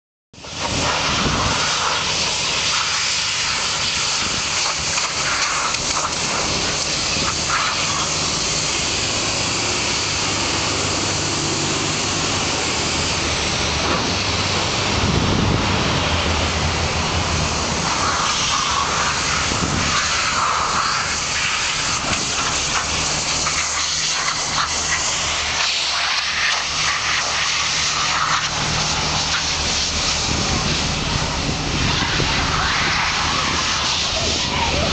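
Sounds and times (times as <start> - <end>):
engine hum: 0.4 - 34.9
pressure washer spraying: 0.4 - 34.9.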